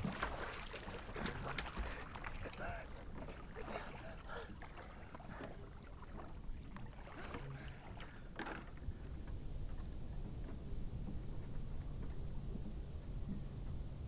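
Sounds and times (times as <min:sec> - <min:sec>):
sea water splashing: 0:00.0 - 0:12.0
low steady rumble: 0:00.0 - 0:14.0.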